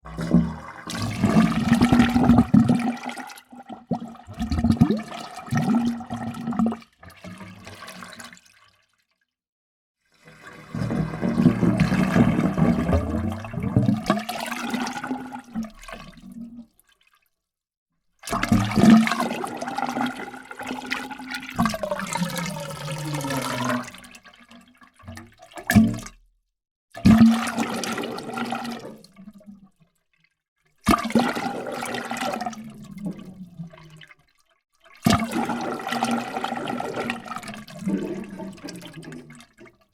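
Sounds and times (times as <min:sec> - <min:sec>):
water gurgling and glugging: 0:00.0 - 0:08.8, 0:10.1 - 0:17.2, 0:18.2 - 0:26.2, 0:27.0 - 0:29.8, 0:30.8 - 0:39.9.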